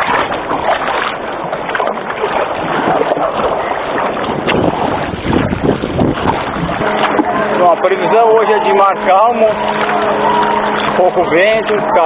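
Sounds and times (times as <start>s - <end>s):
water splashing against kayak: 0.0s - 12.0s.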